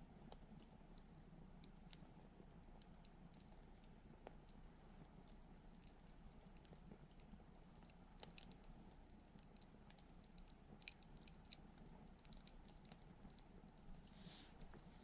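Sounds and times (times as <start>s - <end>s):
campfire crackling: 0.2s - 15.0s.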